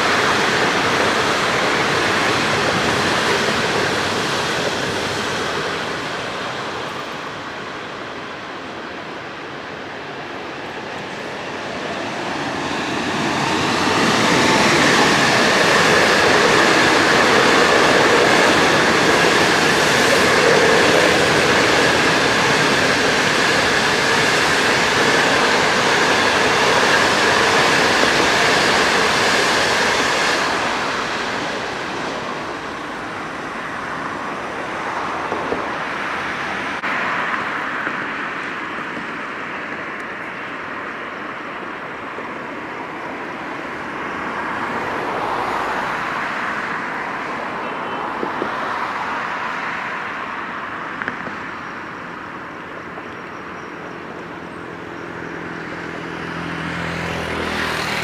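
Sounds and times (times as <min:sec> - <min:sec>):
train passing with high whine: 0:00.0 - 0:58.0.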